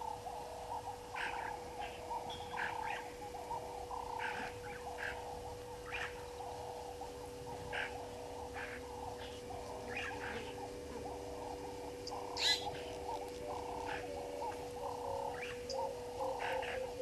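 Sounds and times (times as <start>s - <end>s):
frogs calling: 0.0s - 17.0s
steady low hum: 0.0s - 17.0s.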